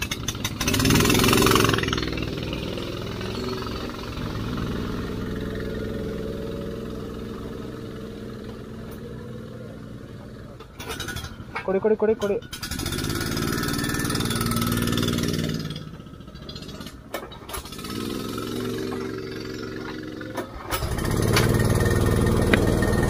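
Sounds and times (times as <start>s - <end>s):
go-kart engine idling: 0.0s - 23.0s.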